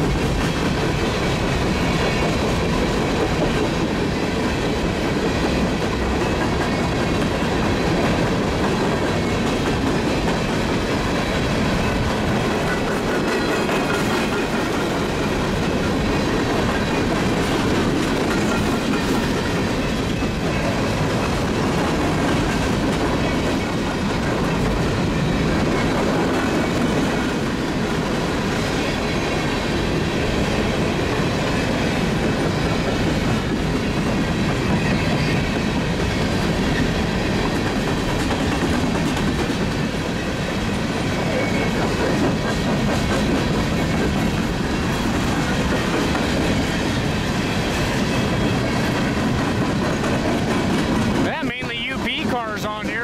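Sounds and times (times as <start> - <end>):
clickety-clack over rail joints: 0.0 - 53.0
freight train wheels rumbling on rails: 0.0 - 53.0.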